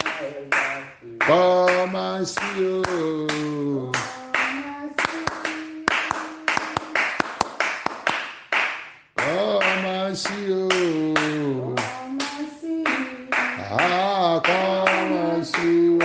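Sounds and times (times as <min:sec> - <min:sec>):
congregation singing: 0:00.0 - 0:07.1, 0:09.2 - 0:16.0
steady hand clapping: 0:00.0 - 0:16.0.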